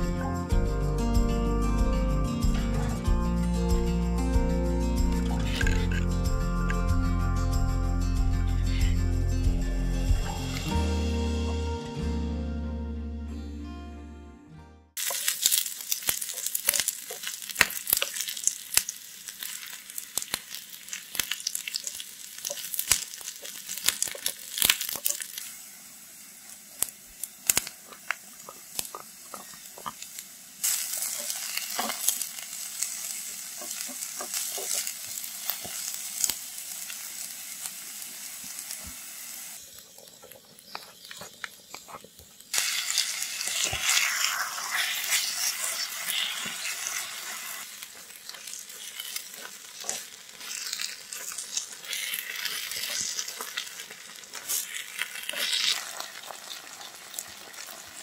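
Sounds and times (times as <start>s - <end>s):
oil sizzling and popping: 3.7s - 7.1s, 15.0s - 58.0s.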